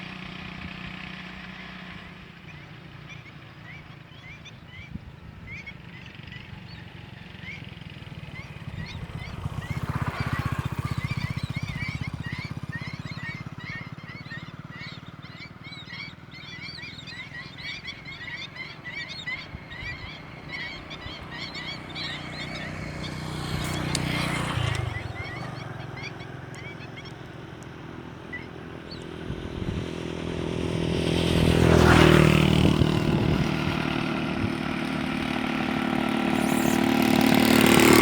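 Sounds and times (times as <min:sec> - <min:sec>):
gulls calling: 0:02.4 - 0:38.0.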